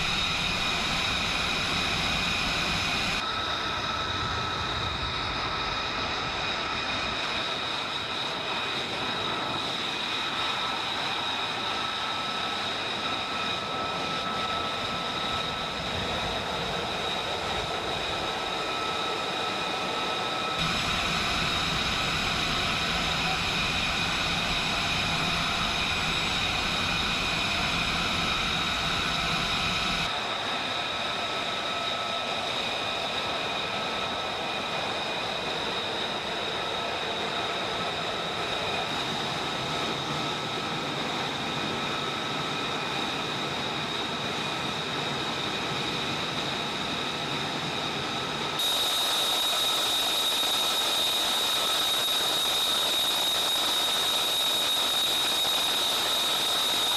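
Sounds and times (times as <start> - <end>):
jet turbine whine: 0.0 - 56.9.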